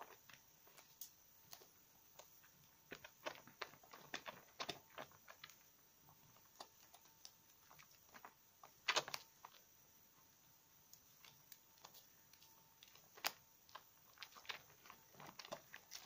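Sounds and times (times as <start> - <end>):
foam popping: 0.0 - 16.0.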